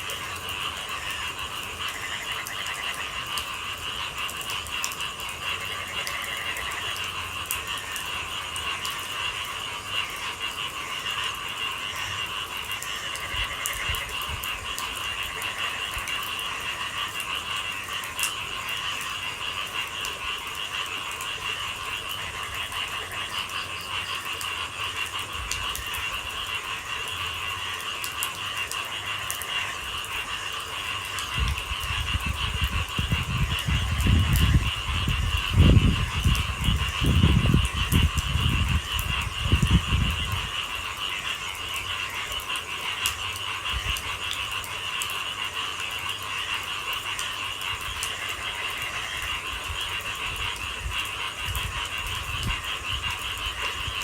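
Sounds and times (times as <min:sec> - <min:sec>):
frogs trilling: 0:00.0 - 0:54.0
light rain: 0:00.0 - 0:54.0.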